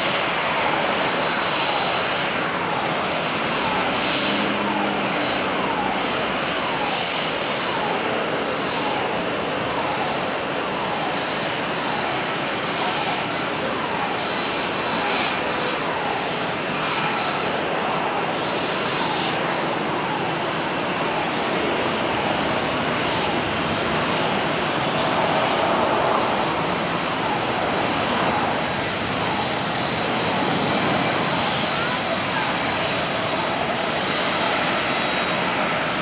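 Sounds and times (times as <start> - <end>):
jet engines at low thrust: 0.0 - 36.0
faint falling whines: 0.2 - 36.0.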